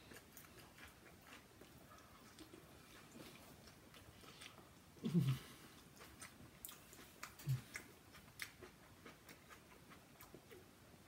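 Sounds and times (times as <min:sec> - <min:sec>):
man chewing crunchy food: 0:00.0 - 0:11.0.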